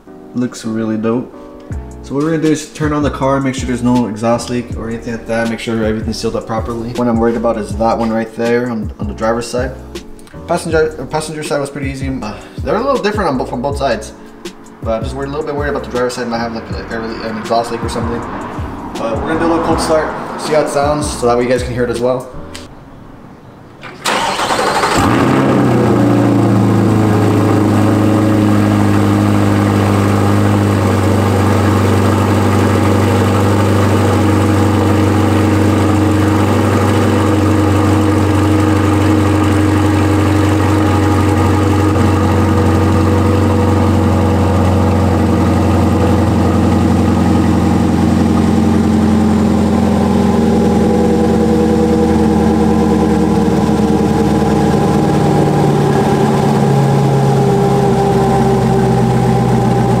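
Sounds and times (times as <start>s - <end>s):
car engine idling: 2.9s - 8.3s, 9.2s - 22.6s, 23.8s - 60.0s.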